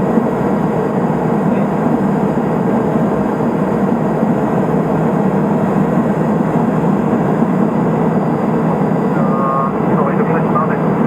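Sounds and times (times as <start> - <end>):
airflow over aircraft: 0.0 - 11.0
turboprop engine and propeller: 0.0 - 11.0.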